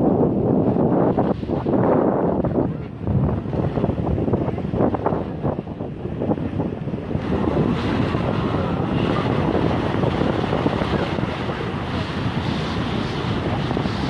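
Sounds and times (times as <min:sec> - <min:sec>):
wind buffeting microphone: 0:00.0 - 0:14.0
small waves splashing: 0:00.6 - 0:14.0.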